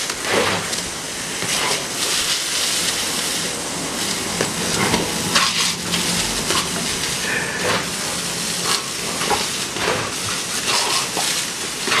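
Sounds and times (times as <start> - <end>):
hose spray hissing on brick: 0.0 - 12.0.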